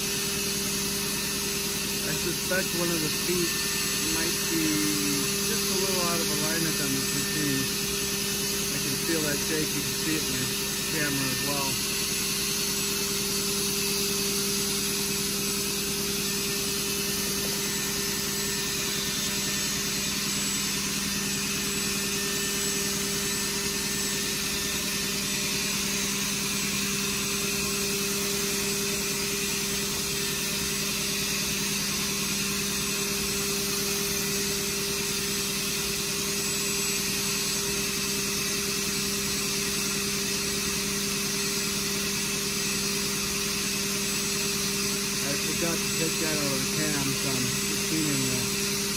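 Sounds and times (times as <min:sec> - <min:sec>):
milling machine hum: 0:00.0 - 0:48.9.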